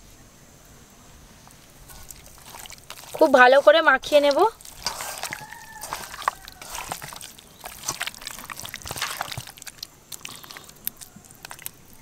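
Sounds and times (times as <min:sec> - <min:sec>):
hands squelching raw meat: 0:01.6 - 0:12.0.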